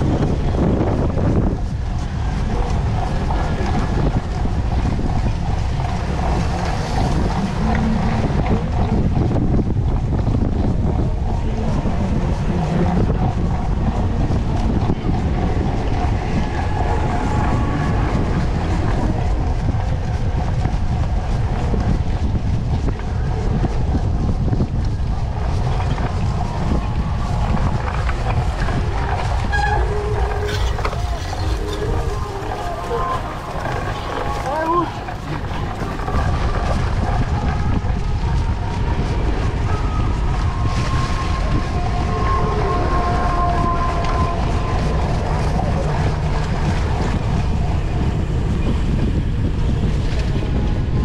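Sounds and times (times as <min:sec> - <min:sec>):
bike tyres rolling through sand: 0:00.0 - 0:51.0
wind rumbling on microphone: 0:00.0 - 0:51.0.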